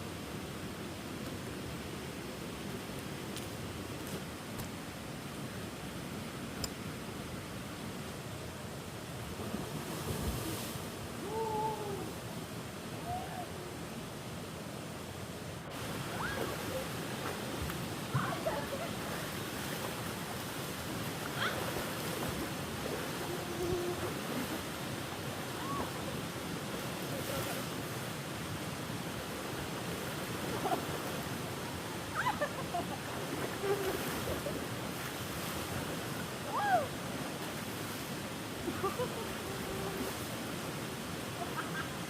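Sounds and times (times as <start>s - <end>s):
running water rushing: 0.0s - 42.0s.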